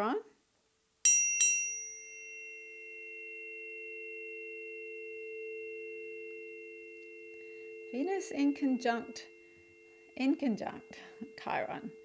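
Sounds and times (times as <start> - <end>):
tuning forks ringing: 1.1 - 12.0.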